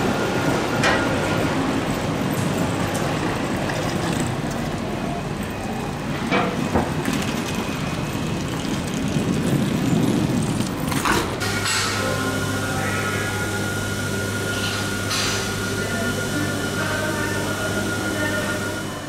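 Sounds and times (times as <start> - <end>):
station rumble and hum: 0.0 - 19.0.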